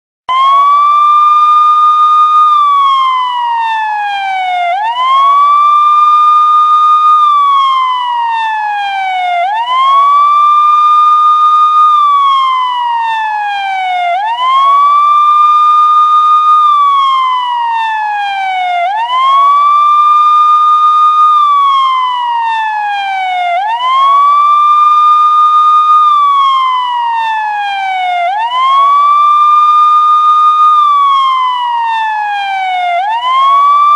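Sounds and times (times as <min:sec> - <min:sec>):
ambulance siren wailing: 0:00.3 - 0:33.9.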